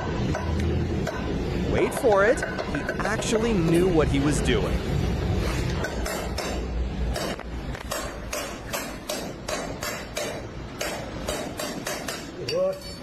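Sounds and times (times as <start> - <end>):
hammer striking: 0.0 - 4.0, 5.7 - 13.0.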